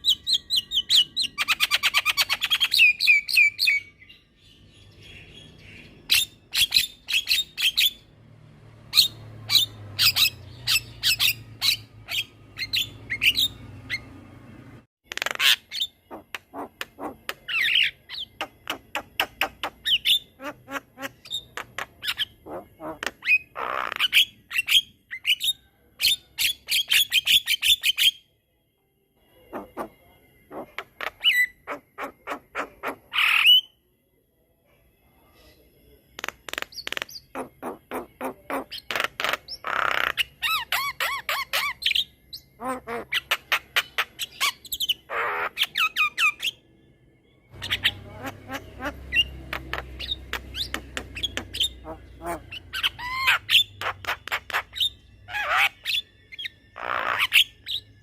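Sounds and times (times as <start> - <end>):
bird chattering song: 0.0 - 8.0, 8.9 - 14.2, 15.1 - 28.2, 36.2 - 46.6, 47.6 - 58.0.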